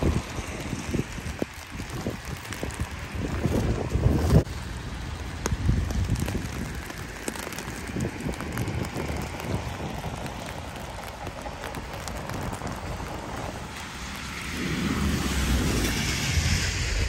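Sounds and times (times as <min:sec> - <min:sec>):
ice ticking: 0:00.0 - 0:16.5
wind gust on microphone: 0:00.0 - 0:17.0.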